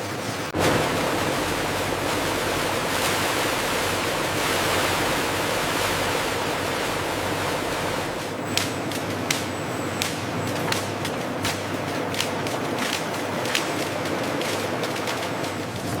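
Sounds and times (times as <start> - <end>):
steady rushing hiss: 0.6 - 16.0.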